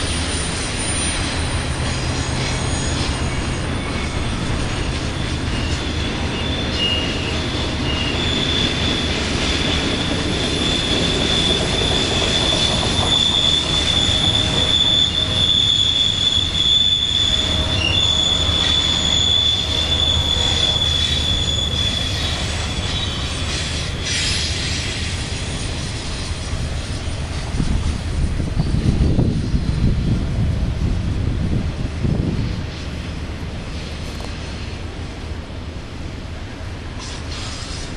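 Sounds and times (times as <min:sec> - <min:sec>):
train wheels squealing: 0:00.0 - 0:30.2, 0:36.9 - 0:37.9
freight train cars rumbling: 0:00.0 - 0:37.9.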